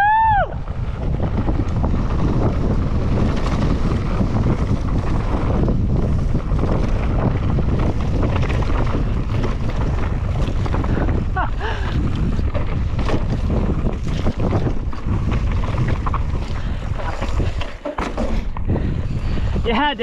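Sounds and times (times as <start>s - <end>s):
bike tyres rumbling on dirt: 0.0s - 20.0s
wind buffeting microphone: 0.0s - 20.0s.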